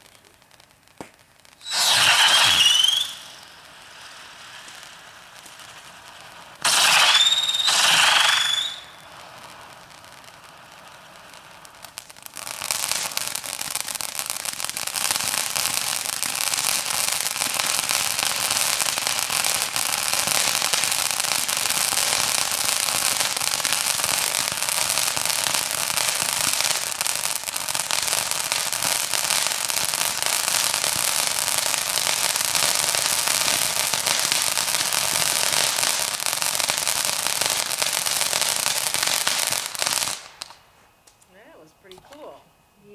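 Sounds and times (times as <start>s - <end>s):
firework fountain hissing: 0.0s - 42.9s
sparks crackling: 0.0s - 42.9s.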